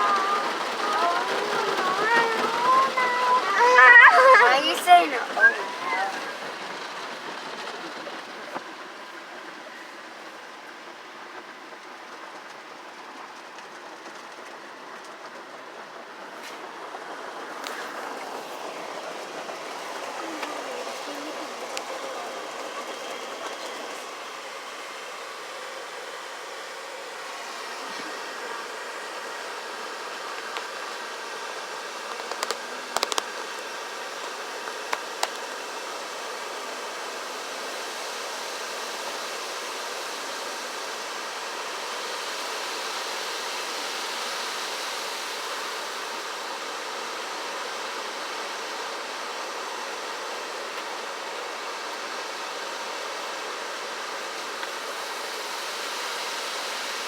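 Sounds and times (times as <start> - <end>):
car wash rushing hiss: 0.0 - 57.0.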